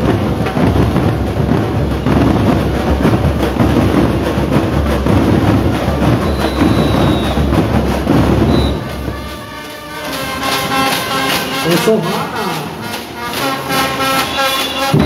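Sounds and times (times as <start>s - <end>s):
marching drum line cadence: 0.0s - 15.0s.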